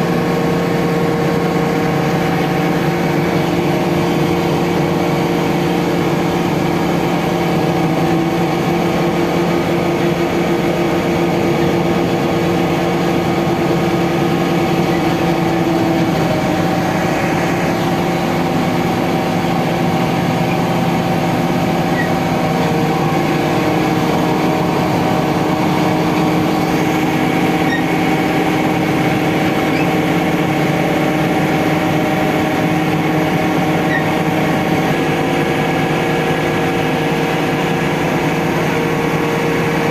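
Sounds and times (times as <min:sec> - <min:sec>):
crane diesel engine running: 0:00.0 - 0:39.9.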